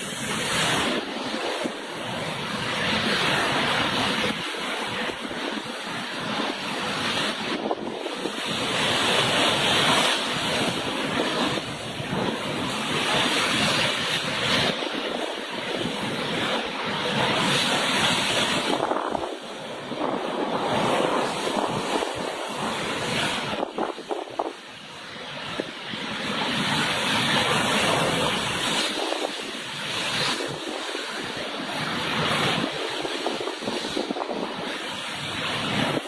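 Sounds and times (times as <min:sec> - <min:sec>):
strong gusting wind: 0:00.0 - 0:36.0
wind buffeting microphone: 0:00.0 - 0:36.0.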